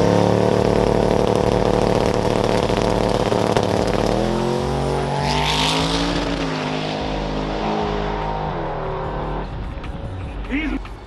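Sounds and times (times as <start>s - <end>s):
drag car engine revving: 0.0s - 11.0s.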